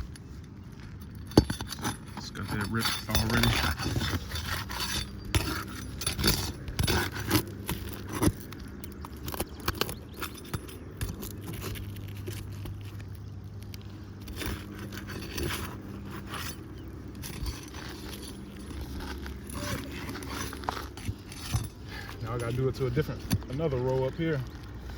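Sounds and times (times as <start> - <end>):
shingles tearing: 0.0 - 24.9
hand tool scraping shingles: 0.8 - 24.9.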